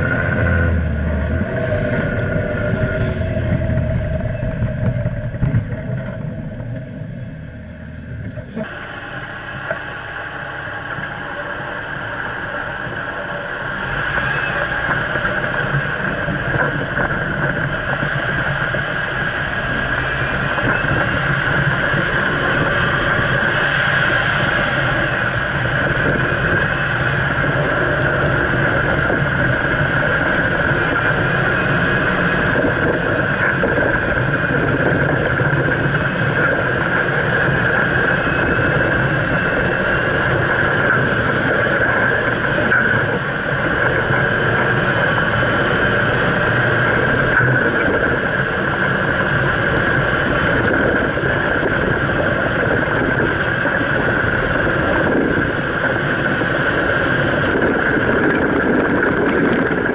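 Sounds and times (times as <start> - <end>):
car engine and running gear drone: 0.0 - 59.9
wind noise: 0.0 - 59.9.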